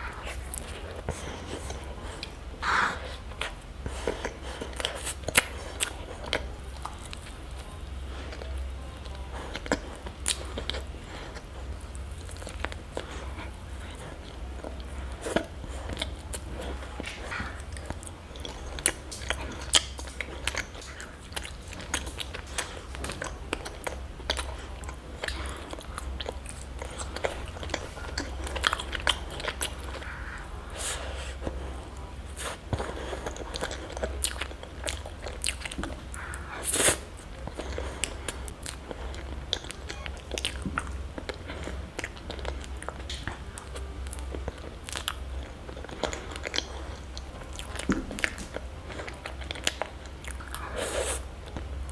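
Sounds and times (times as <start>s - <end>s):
chewing crunchy chocolate: 0.0s - 51.9s.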